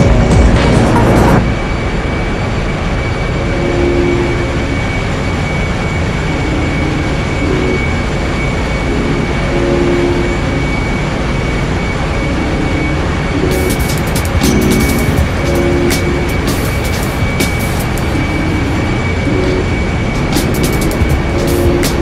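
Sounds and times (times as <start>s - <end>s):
engine room machinery: 0.0s - 22.0s
high whine: 0.0s - 22.0s.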